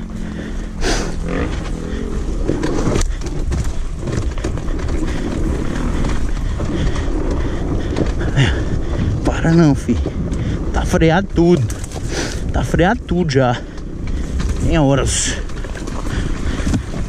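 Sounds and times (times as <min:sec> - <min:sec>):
dirt bike engine at low revs: 0:00.0 - 0:17.0.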